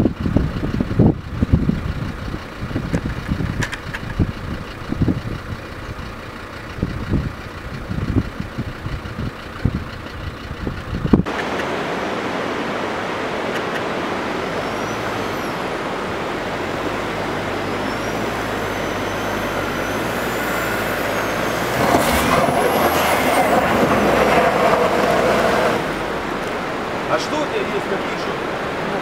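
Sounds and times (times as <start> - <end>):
car driving on gravel: 0.0 - 29.0.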